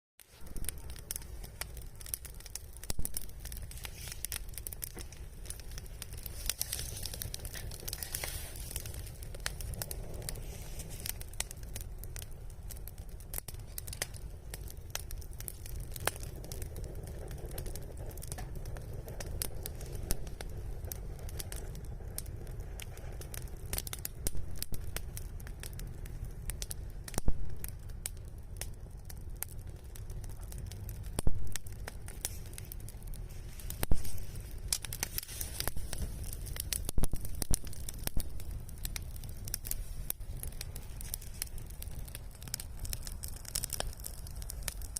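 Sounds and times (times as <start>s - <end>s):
bonfire crackling: 0.2s - 44.9s.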